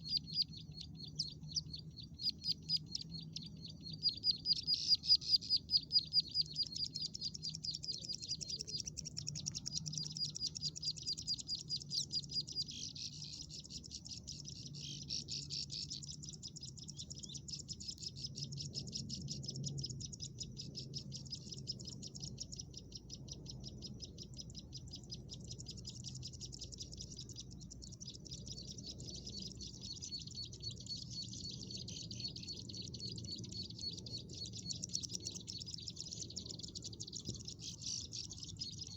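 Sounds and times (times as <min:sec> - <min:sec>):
bird singing high thin chirps: 0:00.0 - 0:38.9.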